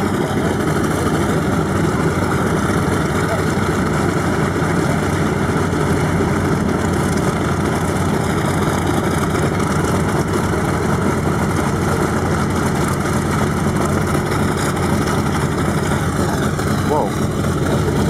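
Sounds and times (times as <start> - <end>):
aircraft radial engines idling: 0.0 - 18.0.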